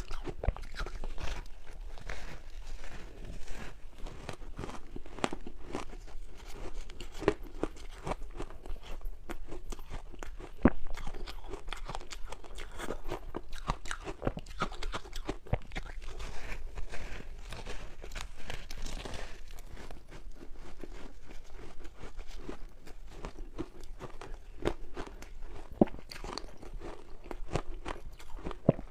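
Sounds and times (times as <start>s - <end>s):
ice being crunched and chewed: 0.0s - 28.9s.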